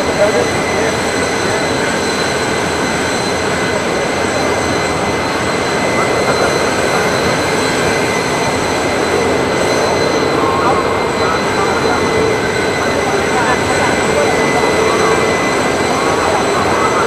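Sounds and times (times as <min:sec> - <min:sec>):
jet turbine rushing and whining: 0:00.0 - 0:17.0.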